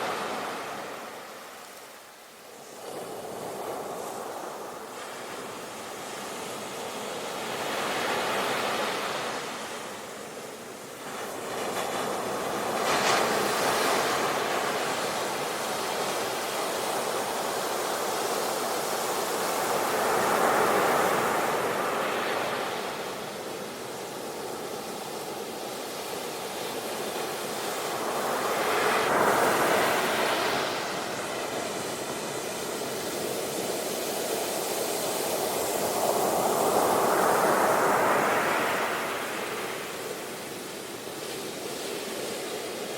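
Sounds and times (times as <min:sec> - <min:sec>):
waves breaking on shore: 0:00.0 - 0:42.9.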